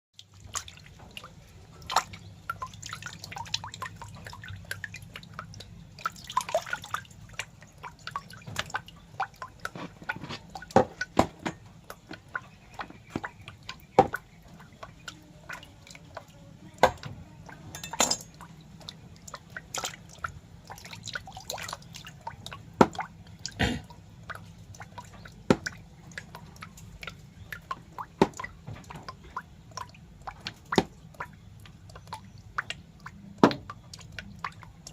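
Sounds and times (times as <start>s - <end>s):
low steady hum: 0.2s - 34.9s
wet clicks and drips: 0.2s - 34.9s.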